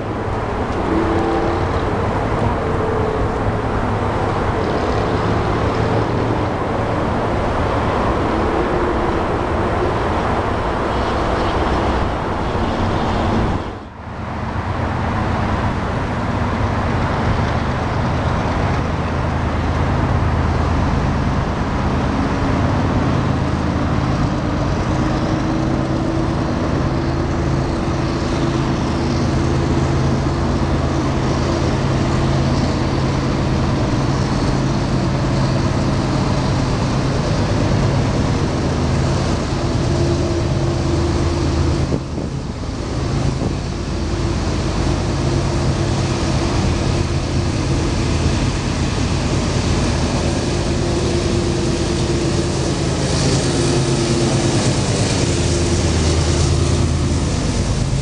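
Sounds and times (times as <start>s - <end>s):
freight train rumbling past: 0.0s - 58.0s
low engine drone: 0.0s - 58.0s
traffic noise: 0.0s - 58.0s.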